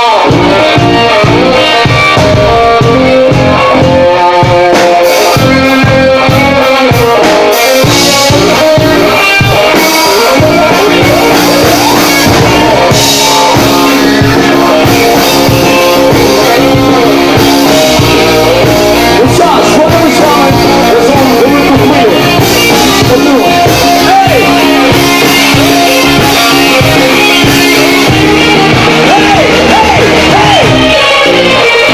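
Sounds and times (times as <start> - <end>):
drum kit: 0.0 - 31.9
guitars: 0.0 - 31.9
person singing: 0.0 - 31.9.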